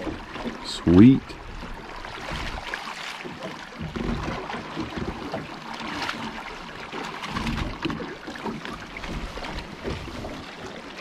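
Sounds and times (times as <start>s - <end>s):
water slapping against boat: 0.0s - 11.0s.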